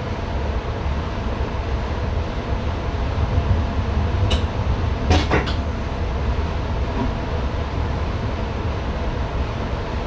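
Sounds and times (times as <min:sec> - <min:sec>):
train cab rumble and hiss: 0:00.0 - 0:10.0.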